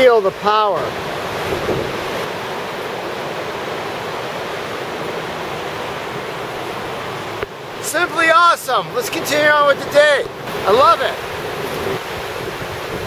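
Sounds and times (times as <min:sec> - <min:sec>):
river rapids roaring: 0:00.0 - 0:13.0.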